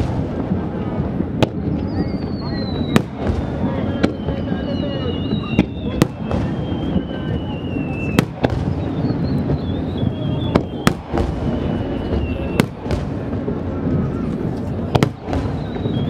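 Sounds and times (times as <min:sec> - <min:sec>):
firework whistles: 0:00.0 - 0:16.0
fireworks bursting: 0:00.0 - 0:16.0
steady background noise: 0:00.0 - 0:16.0.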